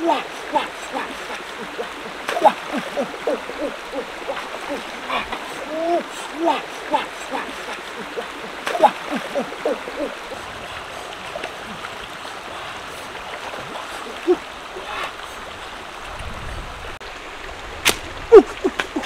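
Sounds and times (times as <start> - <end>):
small water splashes: 0.0 - 19.0
stream running over stones: 0.0 - 19.0.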